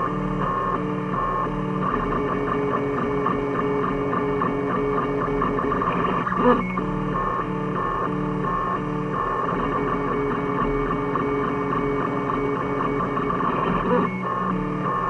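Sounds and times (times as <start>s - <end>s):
stepper motors whining in pitched tones: 0.0s - 15.0s.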